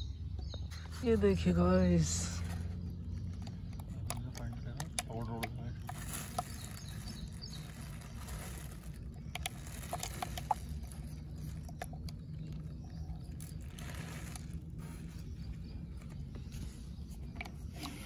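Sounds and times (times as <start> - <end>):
low hum: 0.0 - 18.0
plastic bottle clicking and crinkling: 2.5 - 18.0.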